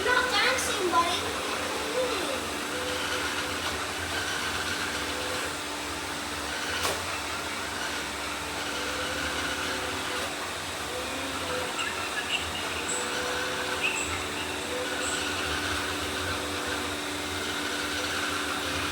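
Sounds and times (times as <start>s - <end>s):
faint humming tones: 0.0s - 18.9s
robot vacuums whirring: 0.0s - 18.9s.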